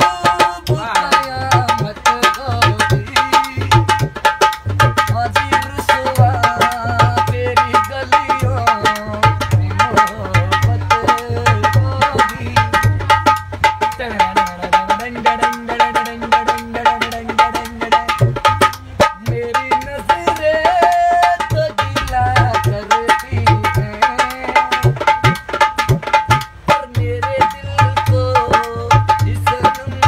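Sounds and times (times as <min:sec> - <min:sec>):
barrel drum played by hand: 0:00.0 - 0:30.0
man singing: 0:00.0 - 0:30.0.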